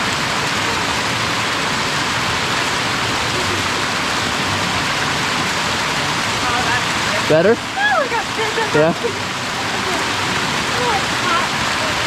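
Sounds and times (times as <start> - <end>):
water cascading: 0.0 - 12.0.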